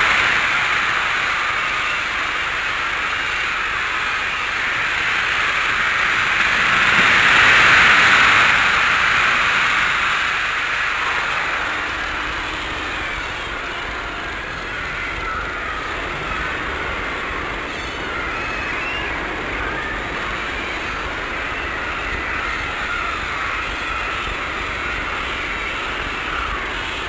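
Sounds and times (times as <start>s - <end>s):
stadium crowd cheering: 0.0s - 27.0s.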